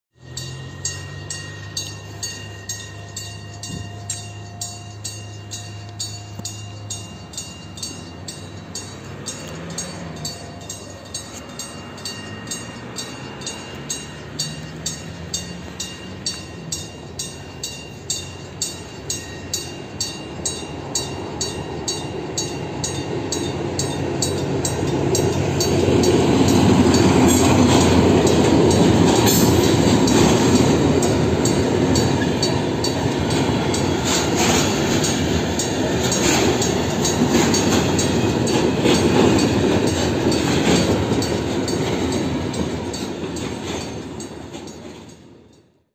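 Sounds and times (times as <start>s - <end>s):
wagons rumbling over crossing: 0.2s - 45.4s
freight train passing: 0.2s - 45.9s
level-crossing warning bell ringing: 0.2s - 45.9s.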